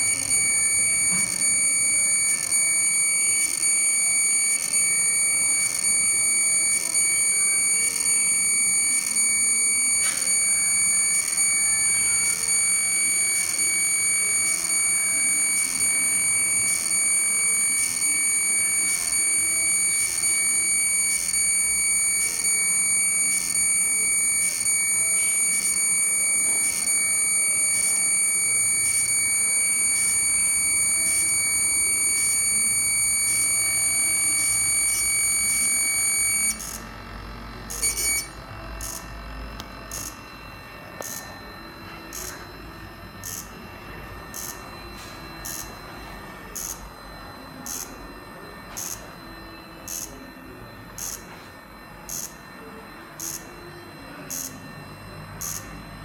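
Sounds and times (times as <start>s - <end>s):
electronic buzzer high-pitched tone: 0.0s - 56.0s.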